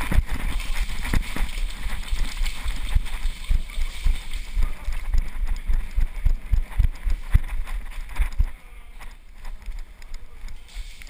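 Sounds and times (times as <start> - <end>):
running footsteps on concrete: 0.0 - 9.9.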